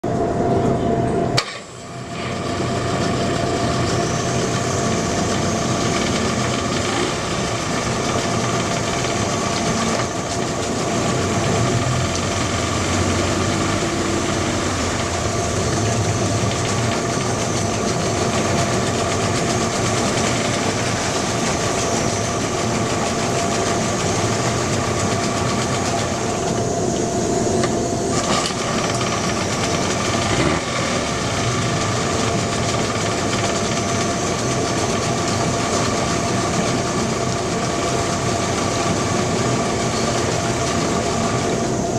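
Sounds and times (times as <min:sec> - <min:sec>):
outboard motor running: 0:01.6 - 0:41.9.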